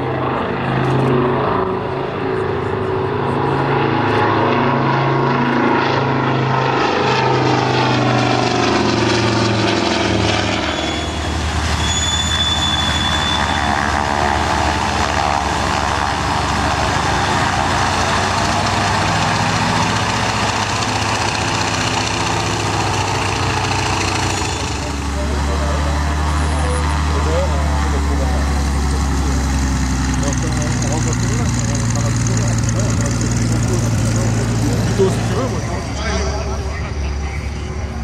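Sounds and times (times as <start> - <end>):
propeller aircraft flying past: 0.0 - 38.0.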